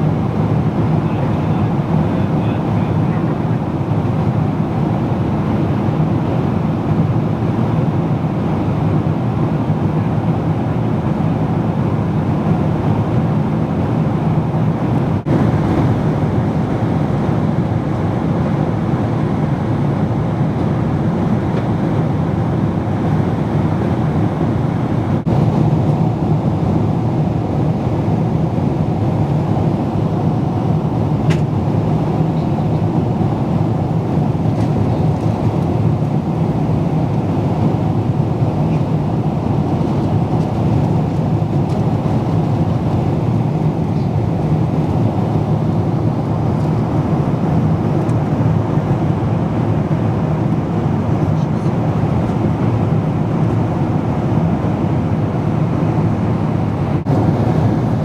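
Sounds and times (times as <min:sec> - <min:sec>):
jet airliner cabin noise: 0:00.0 - 0:58.0.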